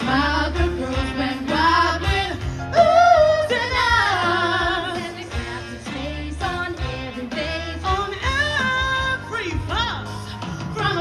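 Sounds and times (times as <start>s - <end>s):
pop music through speakers: 0.0s - 11.0s
woman singing: 0.0s - 11.0s.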